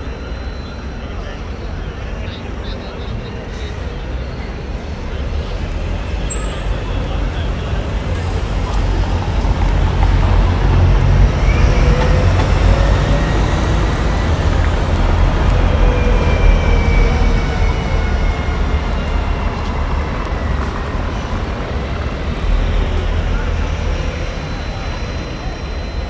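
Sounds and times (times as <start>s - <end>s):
faint whine: 0.0s - 10.2s, 11.7s - 26.0s
bus driving past: 0.0s - 26.0s
city street traffic: 0.0s - 26.0s.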